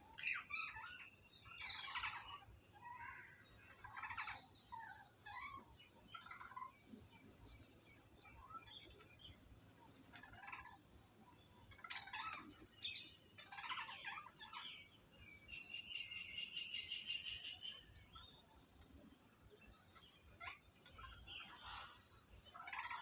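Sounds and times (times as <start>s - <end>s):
harsh bird chirps: 0.0s - 18.4s
rapid bird trill: 0.0s - 19.0s, 19.6s - 23.0s.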